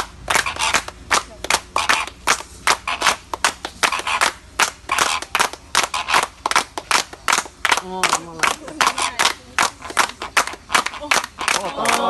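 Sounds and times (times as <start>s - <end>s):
hand clapping: 0.0s - 12.0s.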